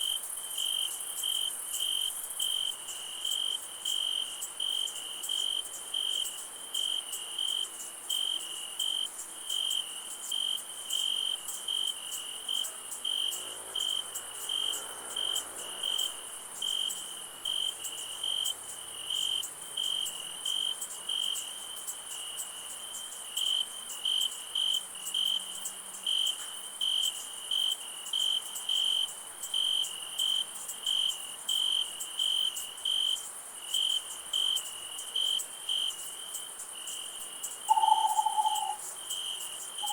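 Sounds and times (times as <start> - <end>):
crickets chirping: 0.0 - 39.9
high-pitched insect trill: 0.0 - 39.9.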